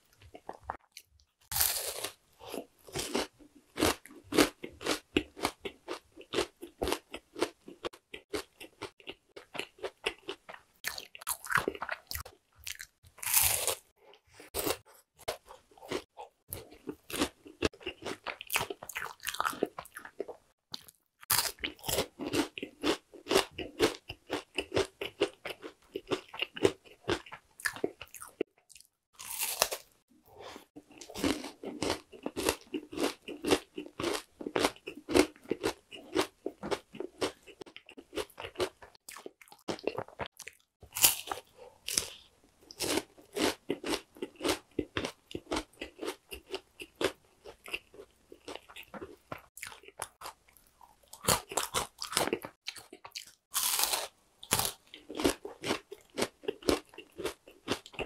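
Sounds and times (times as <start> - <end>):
crunchy chewing and bites: 0.1 - 30.0, 30.8 - 58.0.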